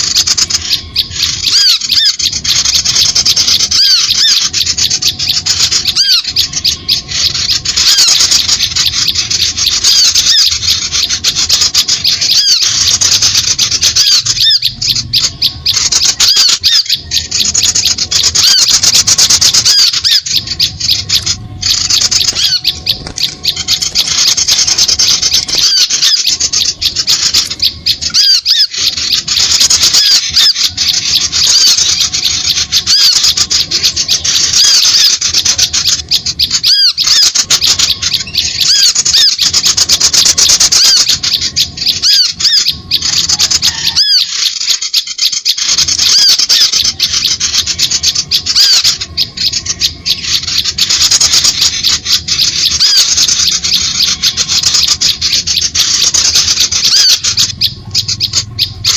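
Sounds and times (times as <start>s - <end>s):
small birds chirping and squeaking: 0.0s - 58.9s.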